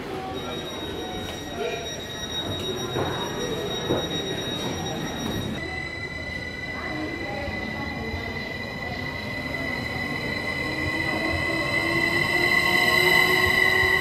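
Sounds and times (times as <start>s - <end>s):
train tone rising in pitch: 0.2s - 14.0s.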